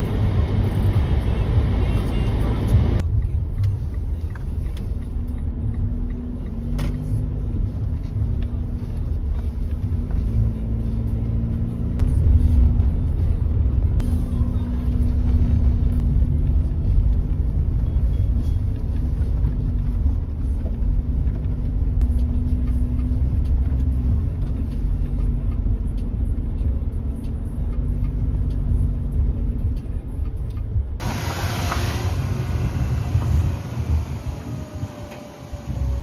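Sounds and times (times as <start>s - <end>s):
car road rumble inside cabin: 0.0s - 36.0s.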